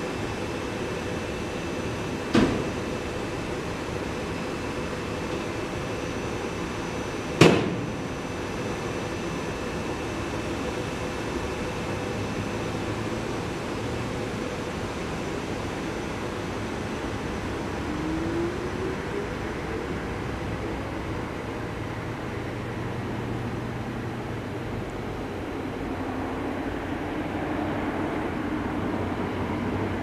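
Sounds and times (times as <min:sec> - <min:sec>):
electric train humming: 0:00.0 - 0:30.0
train rising whine: 0:00.0 - 0:30.0.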